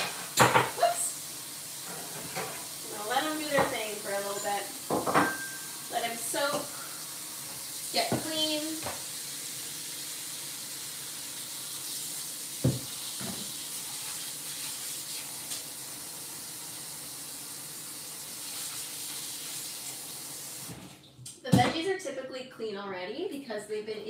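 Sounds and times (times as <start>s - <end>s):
faucet running water into sink: 0.0s - 20.8s.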